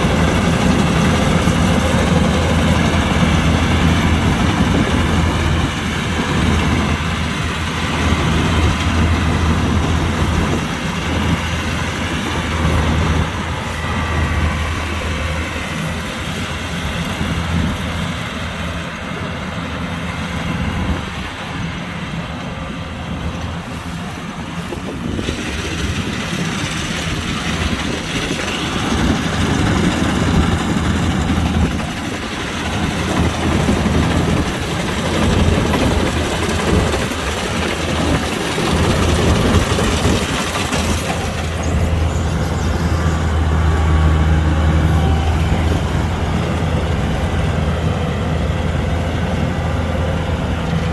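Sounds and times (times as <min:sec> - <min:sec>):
combine harvester engine hum: 0:00.0 - 0:50.9.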